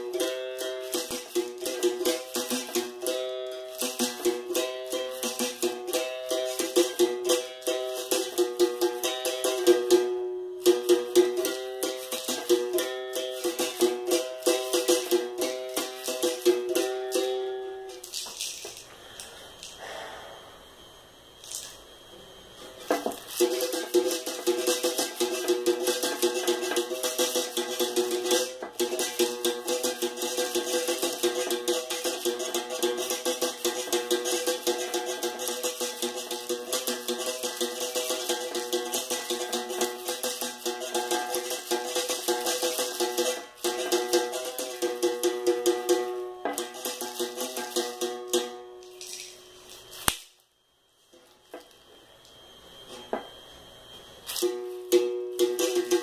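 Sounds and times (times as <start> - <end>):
shaker rattling: 0.0 - 19.8, 21.4 - 22.0, 22.7 - 50.1, 54.2 - 56.0.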